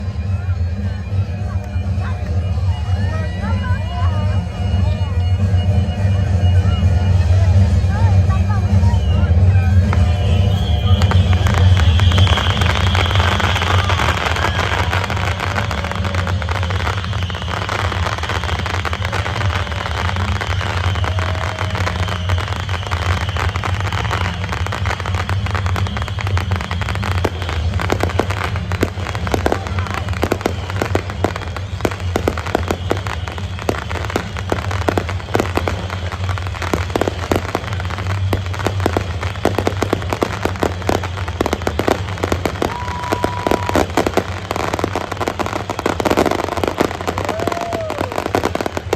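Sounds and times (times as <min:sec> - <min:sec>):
fireworks popping and crackling: 0:00.0 - 0:48.9.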